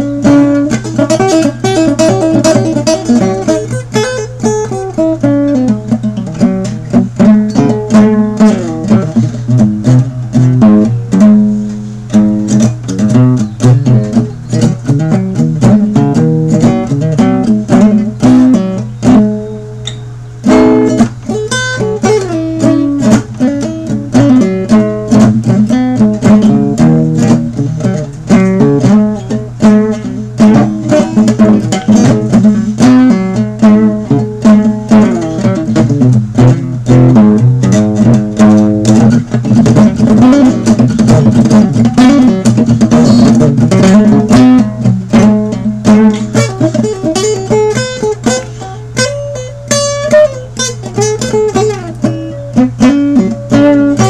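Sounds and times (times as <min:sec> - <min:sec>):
acoustic guitar blues-rock playing: 0:00.0 - 0:54.0.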